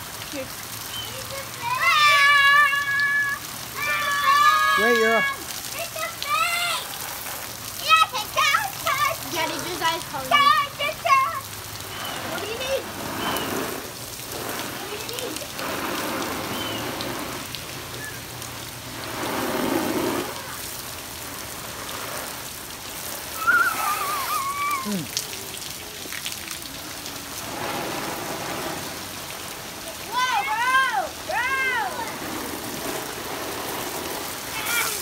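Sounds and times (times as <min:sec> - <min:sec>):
rain on concrete: 0:00.0 - 0:35.0.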